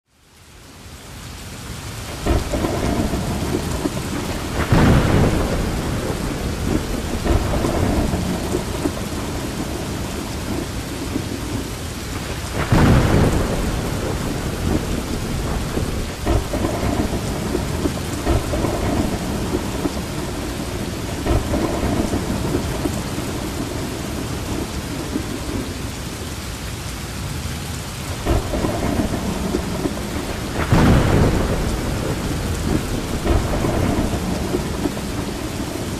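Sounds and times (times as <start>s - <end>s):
heavy rain: 0.1s - 35.9s
thunder rumbling: 2.0s - 26.0s, 27.6s - 35.9s.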